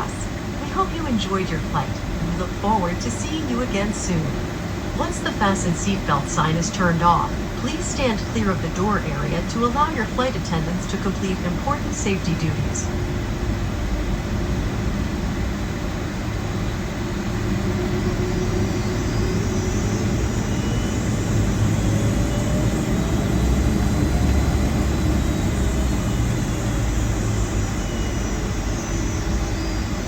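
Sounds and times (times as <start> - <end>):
jet engines idling rumble: 0.0 - 30.0.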